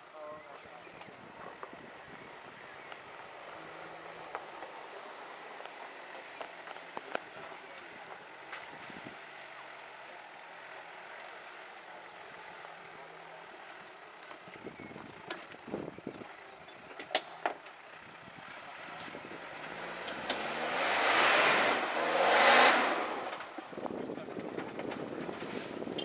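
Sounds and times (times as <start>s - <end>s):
faint car engine at low revs: 0.0s - 26.0s.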